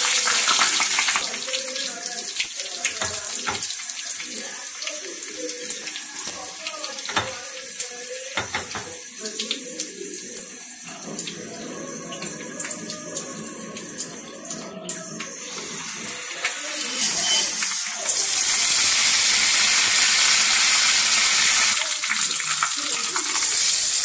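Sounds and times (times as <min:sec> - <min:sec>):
chillies sizzling in hot oil: 0:00.0 - 0:24.0.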